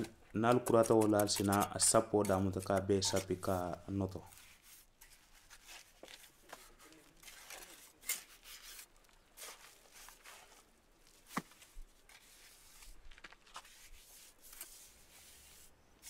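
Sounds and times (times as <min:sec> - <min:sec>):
damp mud scraping: 0:00.0 - 0:15.8.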